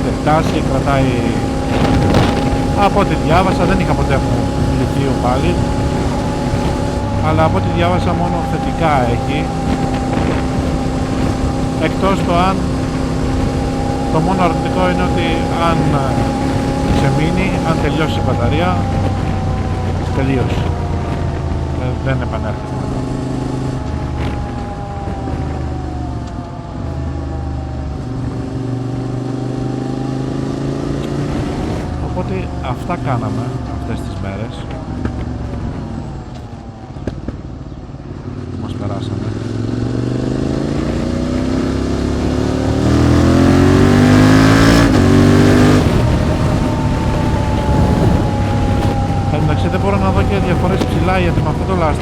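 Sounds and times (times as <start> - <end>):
motorcycle engine on the move: 0.0 - 52.0.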